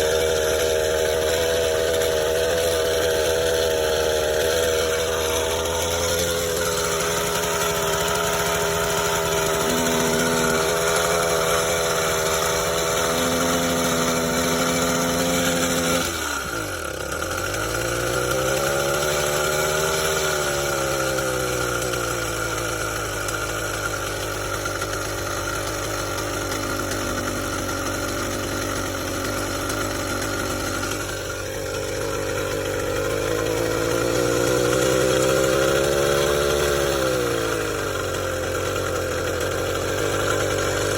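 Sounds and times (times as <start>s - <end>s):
two-stroke engine idling and revving: 0.0s - 40.9s.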